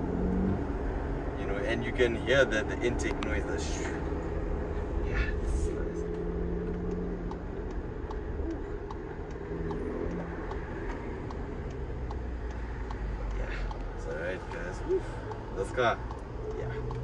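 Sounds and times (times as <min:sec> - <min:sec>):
car engine running: 0:00.0 - 0:17.0
light regular ticking: 0:00.6 - 0:17.0.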